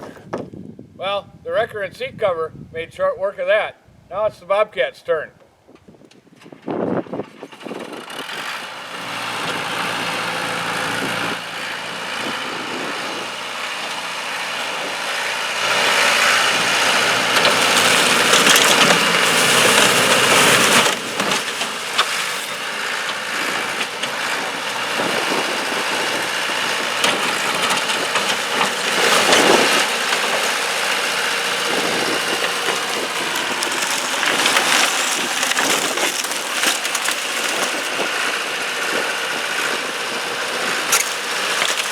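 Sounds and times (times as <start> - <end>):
skid-steer loader running: 7.1 - 41.9.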